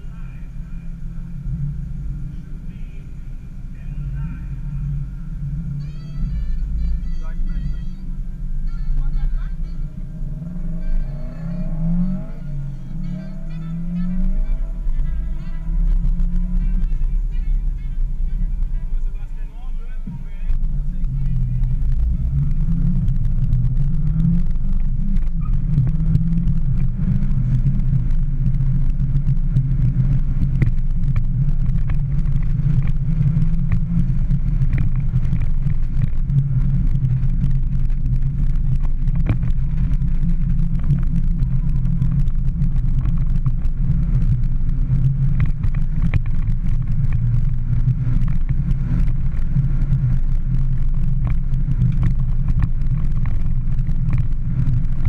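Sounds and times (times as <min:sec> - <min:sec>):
car engine drone in cabin: 0:00.0 - 0:55.0
road and tyre noise: 0:00.0 - 0:55.0.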